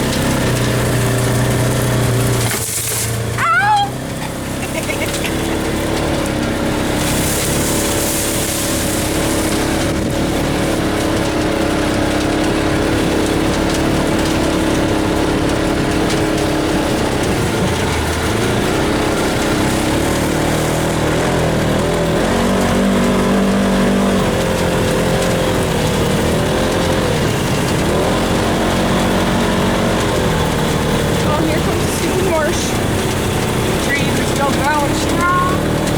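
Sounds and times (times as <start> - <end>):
vehicle engine running: 0.0 - 35.9.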